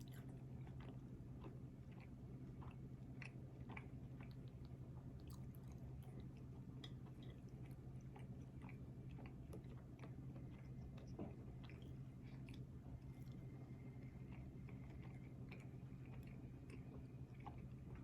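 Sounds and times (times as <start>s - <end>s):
chewing food: 0.0s - 18.0s
steady low hum: 0.0s - 18.0s.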